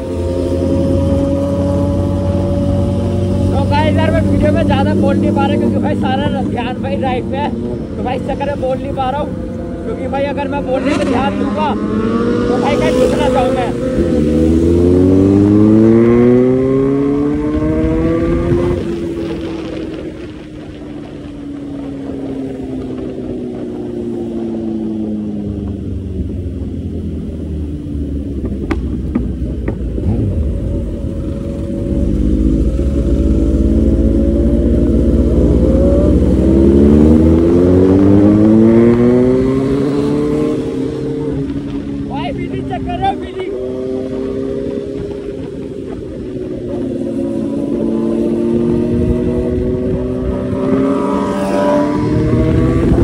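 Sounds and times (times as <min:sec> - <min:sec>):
motorcycle engine: 0:00.0 - 0:53.0
wind rumble on microphone: 0:00.0 - 0:53.0.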